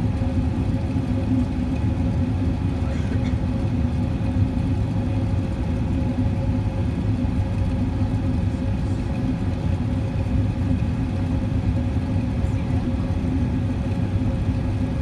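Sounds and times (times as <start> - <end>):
constant hum: 0.0 - 15.0
jet engine cabin rumble: 0.0 - 15.0.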